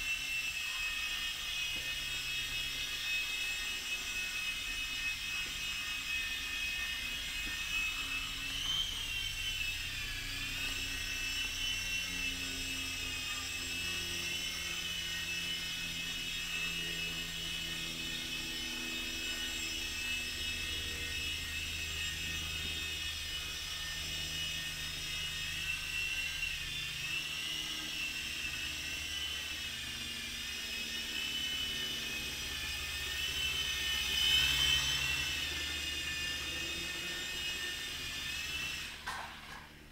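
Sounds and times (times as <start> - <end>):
rotors whirring: 0.0 - 39.9
toy helicopter motors whining: 0.0 - 39.9.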